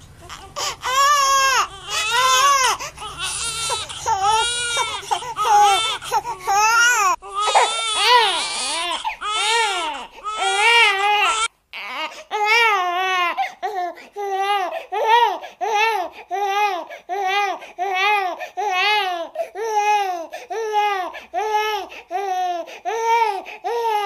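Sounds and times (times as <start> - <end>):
infant crying: 0.2 - 24.0.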